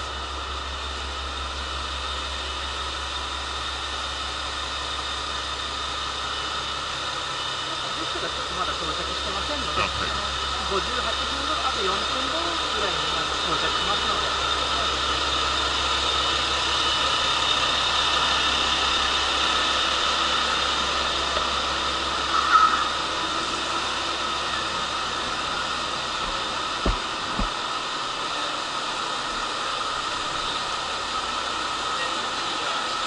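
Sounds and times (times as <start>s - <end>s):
diesel railcar engine idling: 0.0s - 33.0s.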